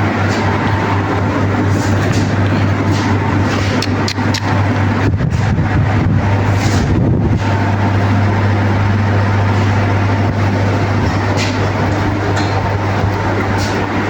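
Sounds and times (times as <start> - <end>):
air conditioner humming and rushing: 0.0 - 14.0.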